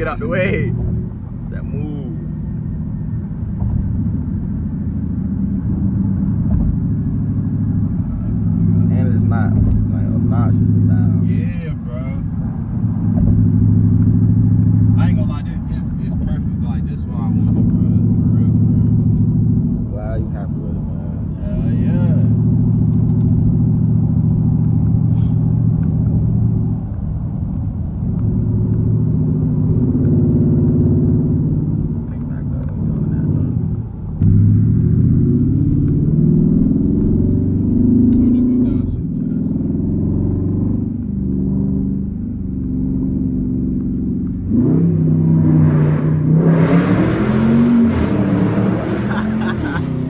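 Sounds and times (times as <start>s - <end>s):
vehicle engine rumbling and revving: 0.0s - 50.0s.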